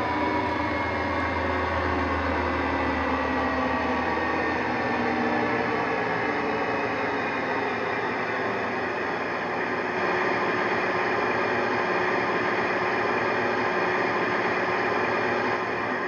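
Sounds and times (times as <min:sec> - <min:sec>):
diesel engine from small speaker: 0:00.0 - 0:16.0.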